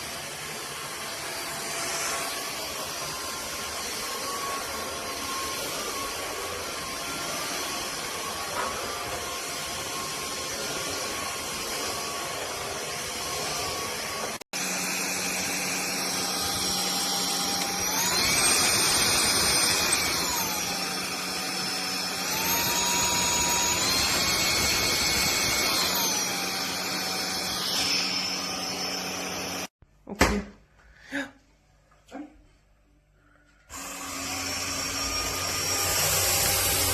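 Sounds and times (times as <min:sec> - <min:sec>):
vacuum cleaner motor whining: 0:00.0 - 0:29.7, 0:33.7 - 0:36.9.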